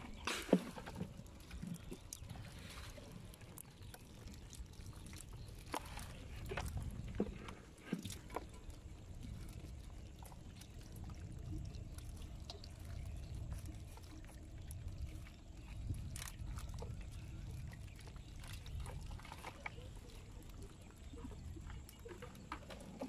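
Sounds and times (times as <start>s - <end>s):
low steady rumble: 0.0s - 23.0s
small clicks and rustles: 0.0s - 23.0s
water trickling and dripping: 0.0s - 23.0s.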